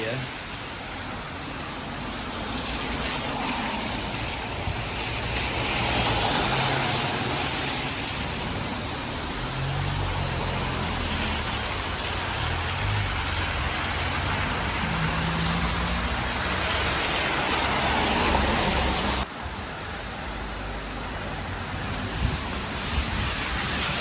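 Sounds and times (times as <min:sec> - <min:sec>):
tyres on wet road: 0:00.0 - 0:24.0.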